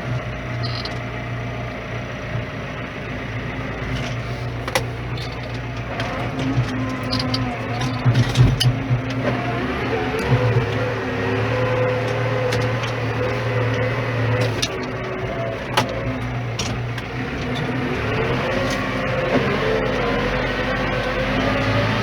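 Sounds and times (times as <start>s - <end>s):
engine whine: 0.0s - 22.0s
tractor engine running: 0.0s - 22.0s.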